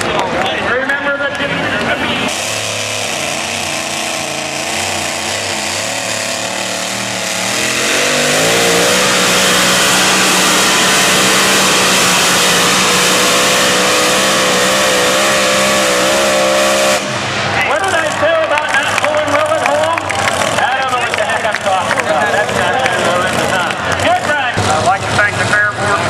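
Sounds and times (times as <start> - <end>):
tractor diesel engine at full throttle: 0.0 - 26.0.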